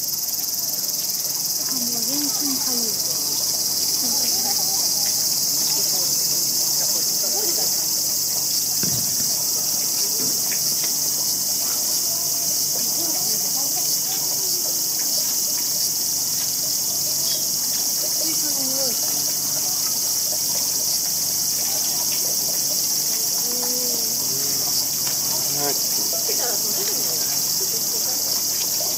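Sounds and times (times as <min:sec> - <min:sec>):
insects chorus: 0:00.0 - 0:28.9
faint voices murmuring: 0:00.4 - 0:28.9.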